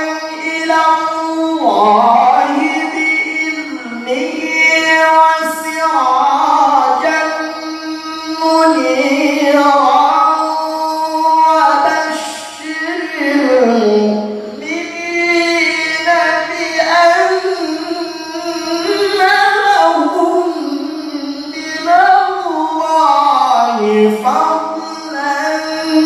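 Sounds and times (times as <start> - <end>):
man reciting melodically into microphone: 0.0 - 26.0.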